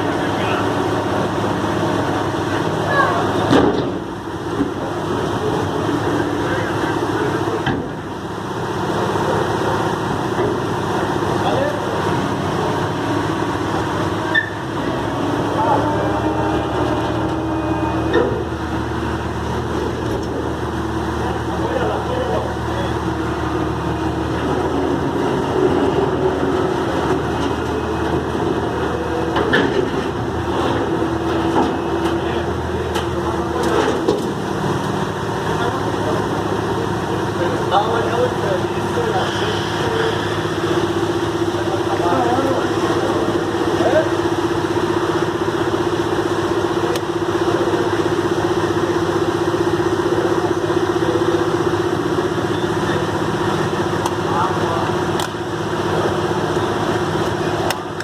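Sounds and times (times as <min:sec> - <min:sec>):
heavy engine whining under load: 0:00.0 - 0:58.0.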